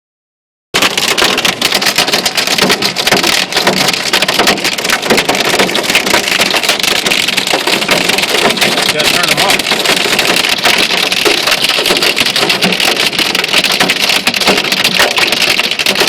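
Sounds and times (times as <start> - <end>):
hail clattering on hard surface: 0.8 - 16.0.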